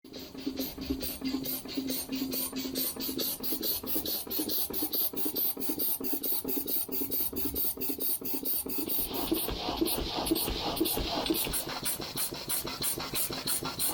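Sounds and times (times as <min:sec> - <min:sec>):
steam engine chuffing: 0:00.1 - 0:13.9.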